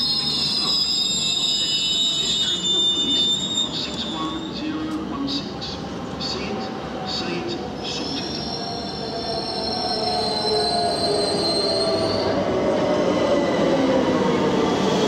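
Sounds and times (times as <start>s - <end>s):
train wheel squeal: 0.0s - 5.0s, 7.2s - 15.0s
rail noise: 0.0s - 15.0s.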